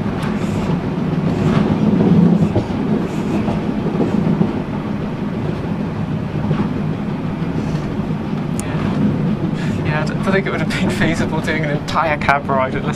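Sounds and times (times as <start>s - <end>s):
train rumbling on track: 0.0s - 12.9s.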